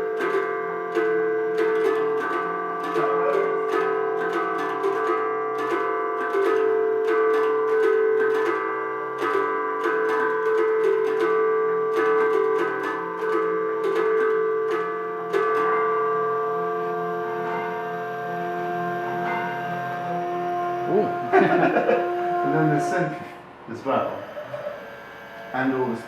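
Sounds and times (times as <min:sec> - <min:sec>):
mechanical tuned percussion striking: 0:00.0 - 0:26.0.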